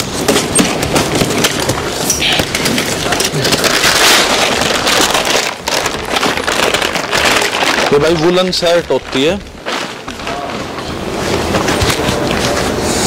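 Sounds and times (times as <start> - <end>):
plastic wrapping rustling and crinkling: 0.0 - 13.0.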